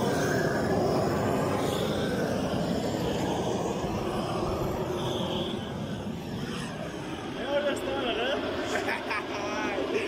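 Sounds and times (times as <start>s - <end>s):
gas torch burning: 0.0s - 10.0s.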